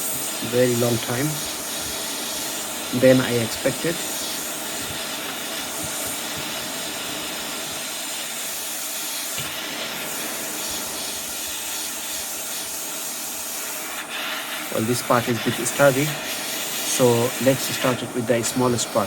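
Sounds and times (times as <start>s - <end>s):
hot air hissing: 0.0s - 19.0s.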